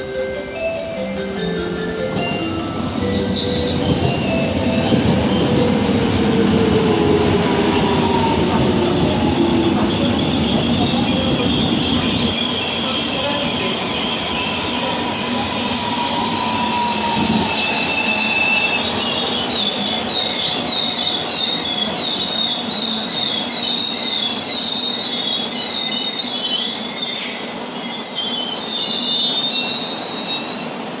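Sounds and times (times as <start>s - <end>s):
subway train wheels squealing: 0.0s - 31.0s
train rumble on rails: 0.0s - 31.0s.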